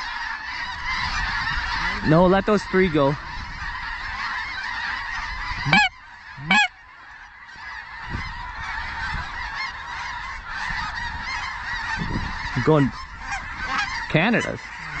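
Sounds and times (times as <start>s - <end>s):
flock of geese calling: 0.0s - 15.0s
loud goose honks: 0.0s - 15.0s.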